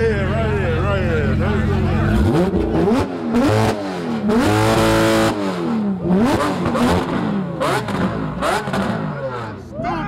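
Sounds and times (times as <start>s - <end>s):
sports car engines revving: 0.0s - 9.8s.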